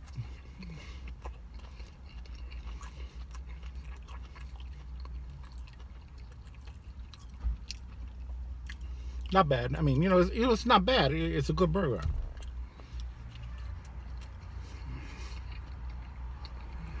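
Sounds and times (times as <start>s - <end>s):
man chewing: 0.0s - 9.3s, 12.2s - 17.0s
steady low rumble: 0.0s - 17.0s.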